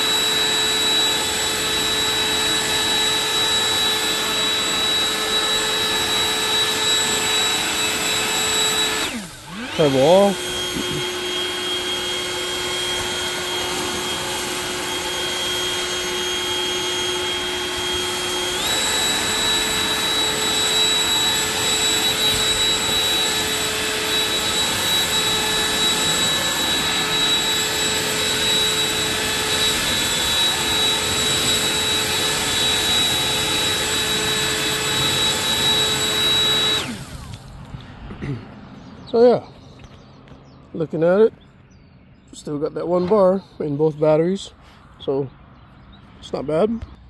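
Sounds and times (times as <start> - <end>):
leaf blower running: 0.0 - 41.5.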